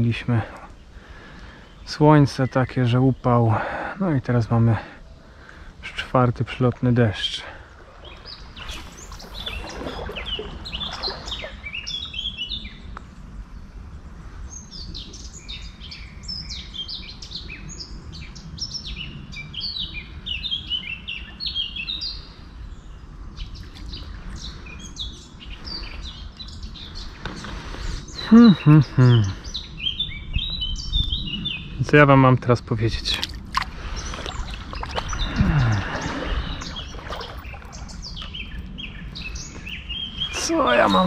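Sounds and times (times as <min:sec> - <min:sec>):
songbirds chirping and trilling: 0:00.0 - 0:41.0.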